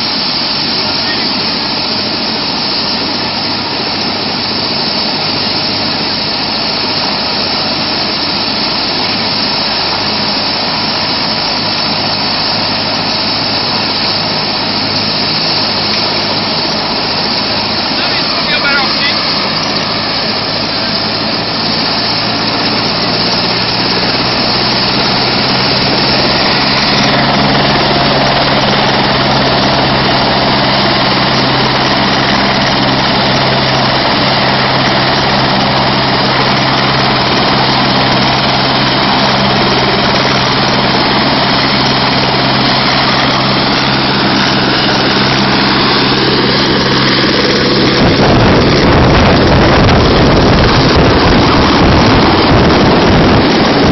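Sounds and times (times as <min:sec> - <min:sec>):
helicopter turbine and rotor hum: 0:00.0 - 0:53.9
rotor wash buffeting microphone: 0:00.0 - 0:53.9.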